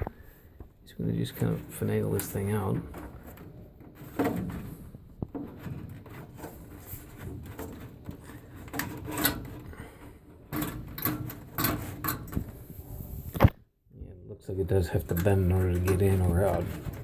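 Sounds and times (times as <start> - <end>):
filter frame scraping against housing: 1.3 - 13.5, 14.9 - 17.0.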